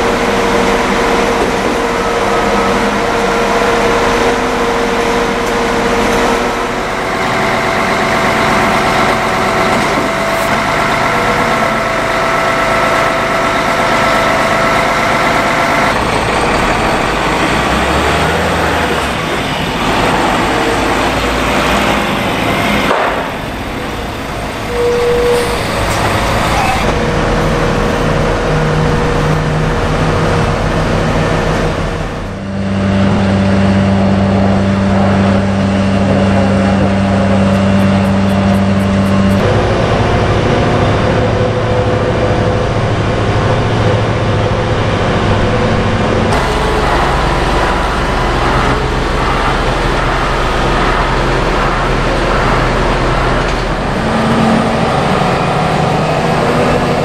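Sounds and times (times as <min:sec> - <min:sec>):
heavy diesel engines running: 0:00.0 - 0:57.0
road traffic: 0:00.0 - 0:57.0.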